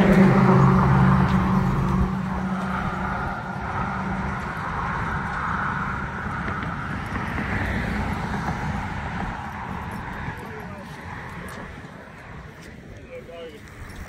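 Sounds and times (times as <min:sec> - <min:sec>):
car engine hum: 0:00.0 - 0:14.0
passing cars: 0:00.0 - 0:14.0.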